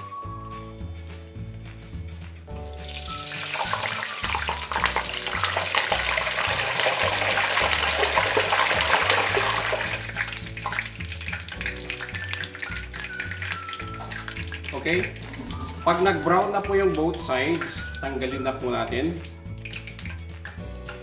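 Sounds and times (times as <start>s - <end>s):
background music: 0.0s - 21.0s
doughnuts sizzling in hot oil: 2.6s - 21.0s.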